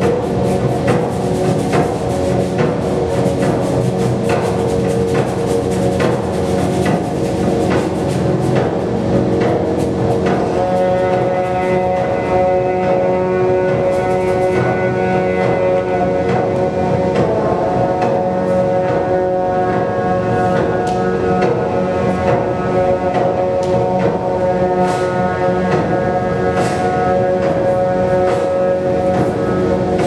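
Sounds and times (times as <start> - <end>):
long held music chords: 0.0 - 30.0.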